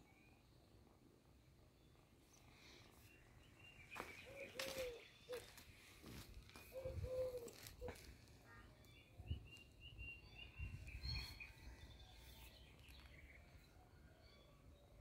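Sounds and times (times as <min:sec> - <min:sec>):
distant birds chirping: 0:00.0 - 0:14.9.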